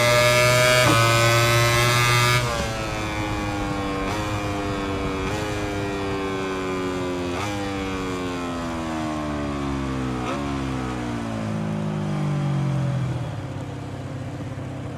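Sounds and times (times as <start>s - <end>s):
motorcycle engine downshifting: 0.0s - 14.9s.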